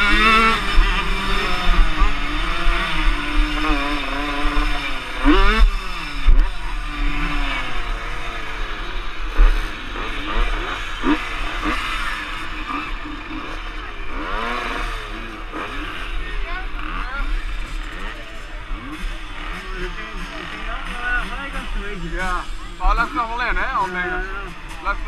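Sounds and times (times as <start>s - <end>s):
motocross motorcycle engine revving: 0.0s - 25.0s
other motorcycle engines revving: 0.0s - 25.0s.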